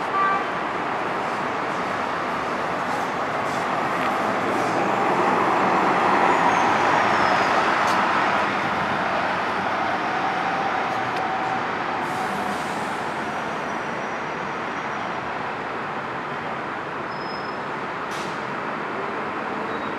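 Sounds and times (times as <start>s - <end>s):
bus engine passing: 0.6s - 16.9s.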